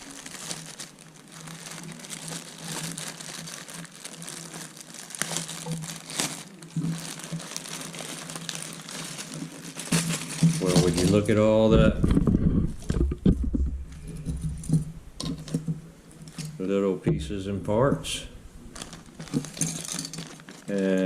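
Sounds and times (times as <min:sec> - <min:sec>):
packaging crinkling: 0:00.0 - 0:16.7, 0:17.7 - 0:21.0.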